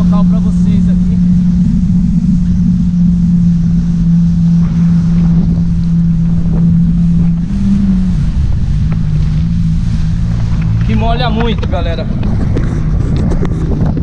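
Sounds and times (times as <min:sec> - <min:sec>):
jet ski engine: 0:00.0 - 0:14.0
water spray rushing: 0:00.0 - 0:14.0
wind buffeting microphone: 0:00.0 - 0:14.0.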